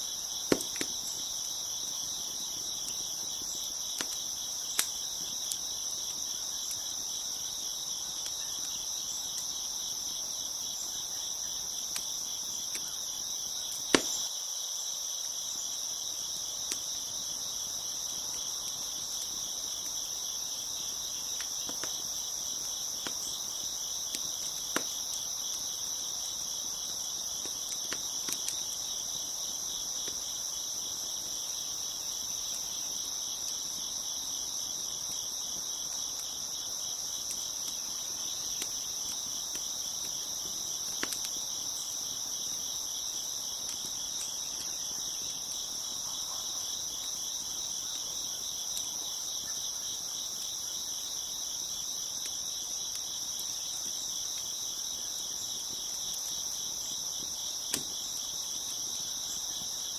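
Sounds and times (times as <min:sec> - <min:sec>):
crickets chirping: 0:00.0 - 0:59.9
wood fire crackling: 0:00.0 - 0:59.9.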